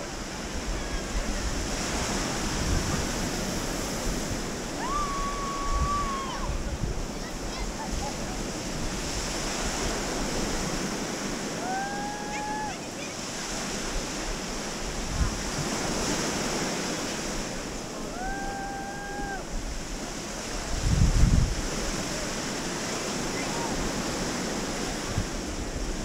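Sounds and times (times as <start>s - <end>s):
waves washing onto sand: 0.0s - 26.0s
wind on microphone: 0.0s - 26.0s.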